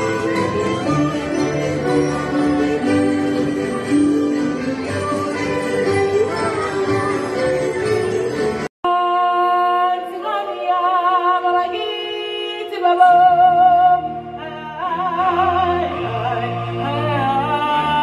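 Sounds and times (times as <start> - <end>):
person singing with vibrato: 0.0 - 18.0.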